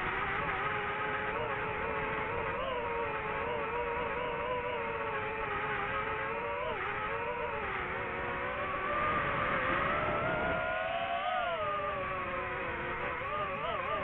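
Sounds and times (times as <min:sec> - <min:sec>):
drone propellers buzzing whine: 0:00.0 - 0:14.0.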